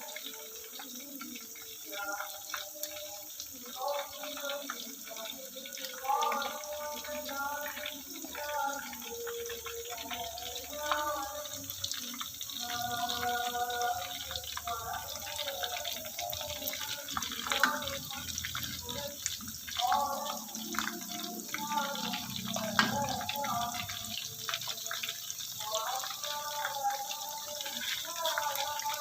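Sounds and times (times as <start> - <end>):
water running: 0.0 - 29.0.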